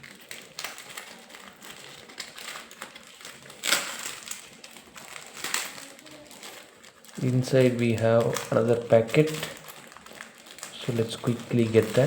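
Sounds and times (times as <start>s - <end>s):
packaging crinkling and rustling: 0.0s - 12.0s
packaging ripping: 0.0s - 12.0s.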